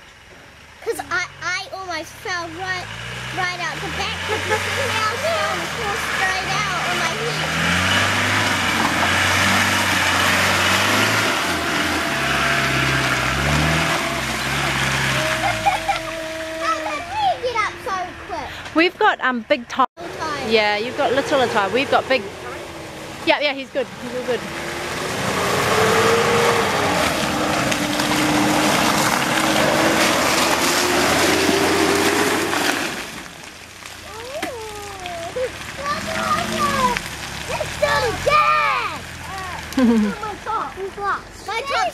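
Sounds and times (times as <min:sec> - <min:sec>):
vehicle engine driving past: 0:02.3 - 0:34.2, 0:35.2 - 0:41.2.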